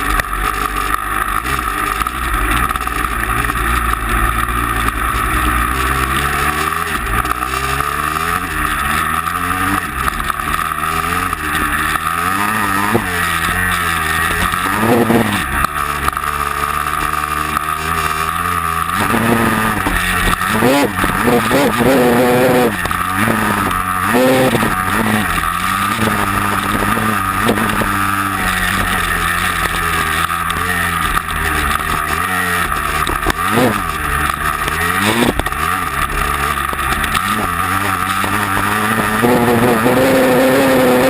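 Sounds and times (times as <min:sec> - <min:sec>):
vehicle engine revving under load: 0:00.0 - 0:41.0.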